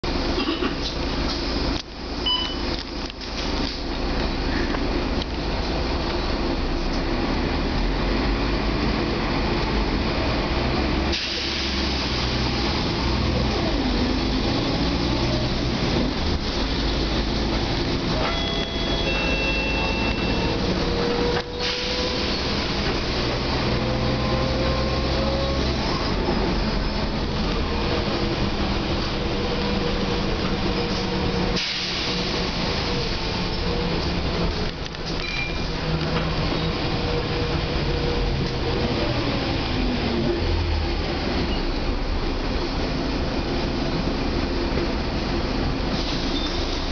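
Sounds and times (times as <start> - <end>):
bus engine and drivetrain noise: 0.0 - 46.9.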